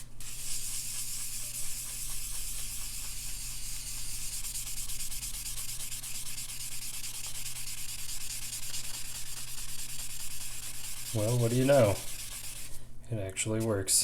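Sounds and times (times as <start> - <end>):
sponge scrubbing sharpening stone: 0.2 - 12.8.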